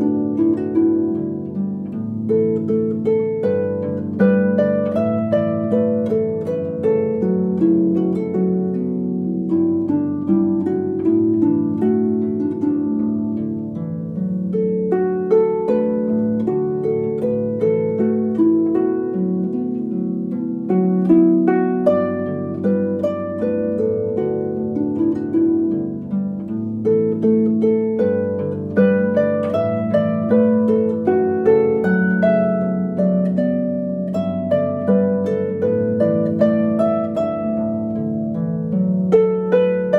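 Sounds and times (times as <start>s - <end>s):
plucked harp-like melody: 0.0s - 39.9s.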